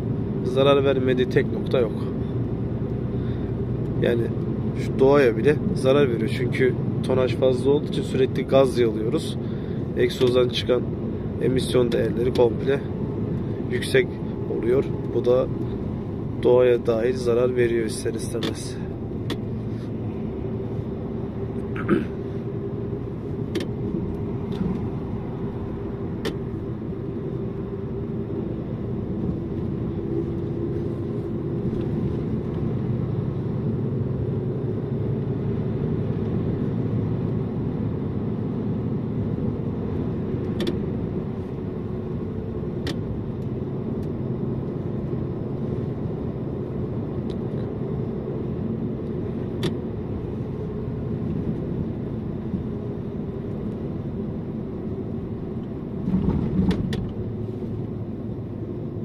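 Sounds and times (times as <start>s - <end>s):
road noise: 0.0s - 59.0s
truck engine drone: 0.0s - 59.0s.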